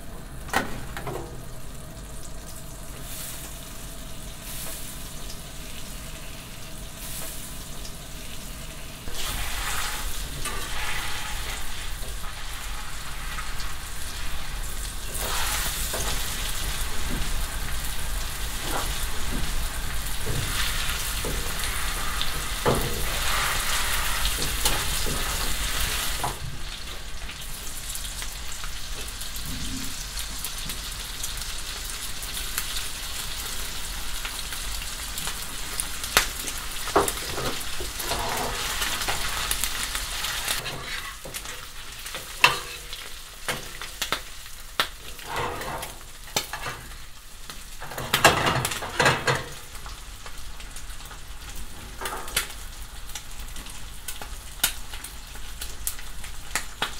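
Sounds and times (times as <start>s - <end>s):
fish and bacon sizzling in oil: 0.0s - 56.9s.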